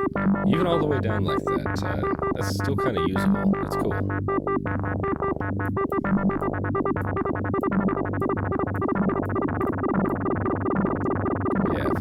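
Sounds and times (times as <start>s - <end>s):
guitar synth sequencer notes: 0.0s - 12.0s.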